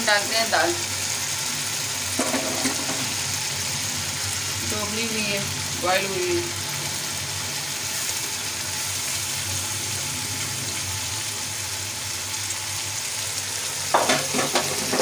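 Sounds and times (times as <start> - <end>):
oil sizzling in metal pot: 0.0 - 15.0.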